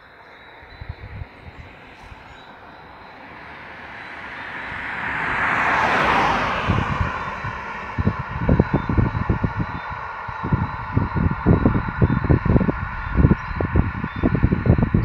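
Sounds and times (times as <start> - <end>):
car passing by: 0.0 - 15.0.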